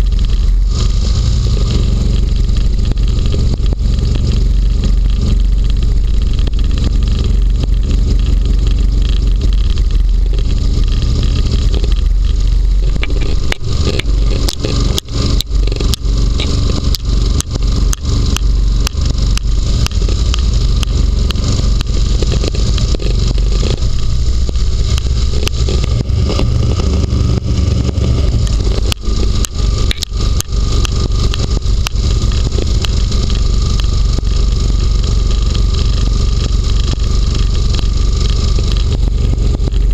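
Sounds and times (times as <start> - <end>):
hovercraft engine drone: 0.0 - 39.9
sharp clicks and knocks: 0.0 - 39.9.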